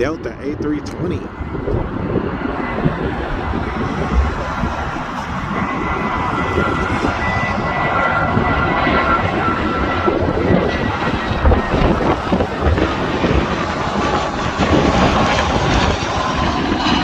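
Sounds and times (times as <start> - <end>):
jet airliner engines whining: 0.0 - 17.0.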